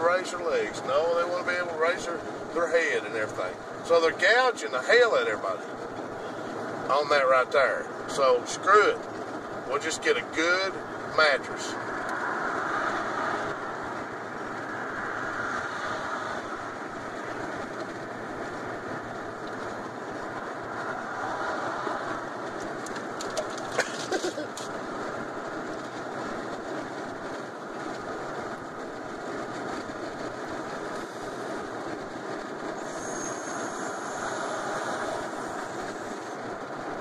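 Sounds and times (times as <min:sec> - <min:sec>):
car cabin road and engine noise: 0:00.0 - 0:37.0.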